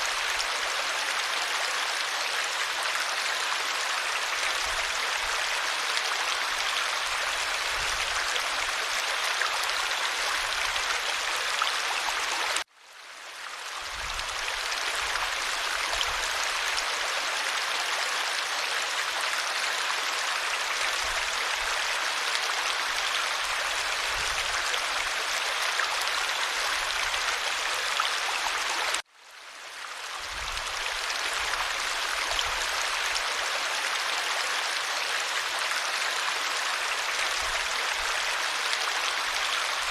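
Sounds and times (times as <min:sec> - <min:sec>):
stream water rushing: 0:00.0 - 0:12.7, 0:13.7 - 0:29.0, 0:29.8 - 0:39.9.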